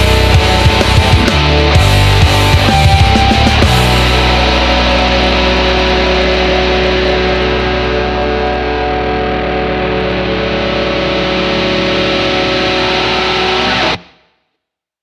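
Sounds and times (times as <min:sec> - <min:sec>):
distorted electric guitar chord: 0:00.0 - 0:14.2
alternative rock music: 0:00.0 - 0:14.3.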